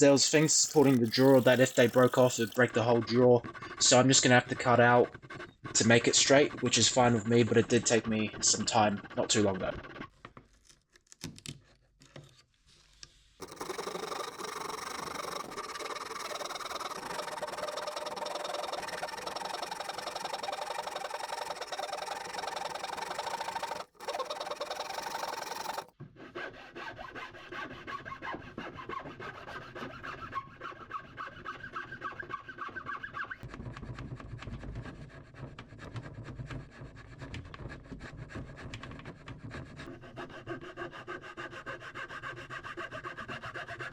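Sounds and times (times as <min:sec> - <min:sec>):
tool rasping wood: 0:00.0 - 0:10.4, 0:13.4 - 0:32.9, 0:34.0 - 0:43.9.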